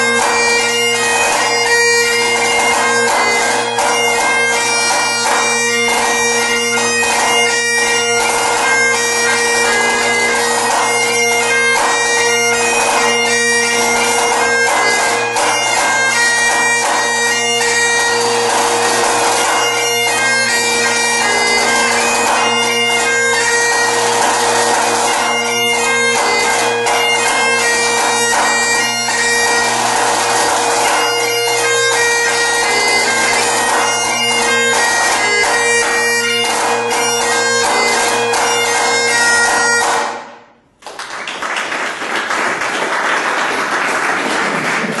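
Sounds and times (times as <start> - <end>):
bagpipes playing a march: 0.0 - 40.4
applause: 2.3 - 12.0, 12.6 - 40.2, 40.8 - 45.0.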